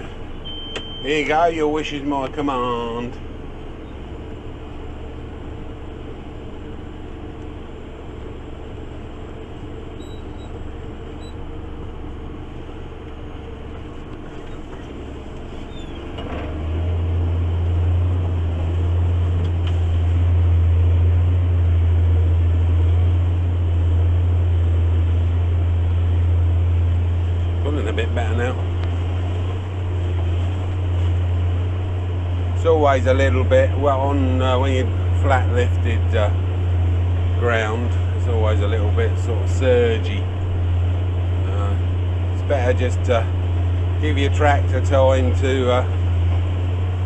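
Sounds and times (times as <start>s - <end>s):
tractor engine under load: 0.0s - 47.0s.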